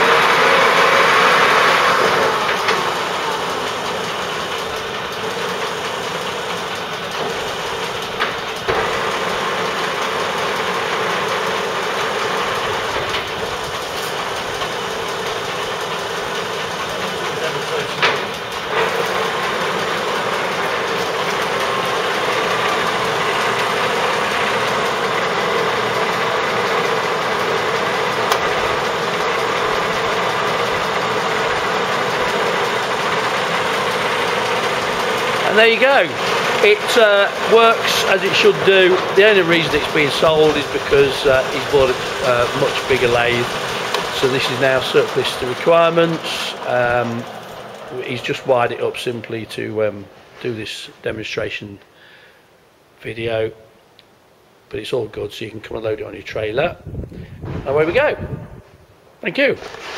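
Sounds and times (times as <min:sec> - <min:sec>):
lathe whirring: 0:00.0 - 0:51.0, 0:56.8 - 0:59.9.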